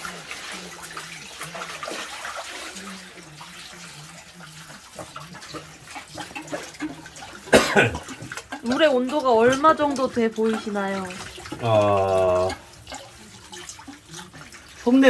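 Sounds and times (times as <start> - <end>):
tap water running and splashing: 0.0 - 15.0.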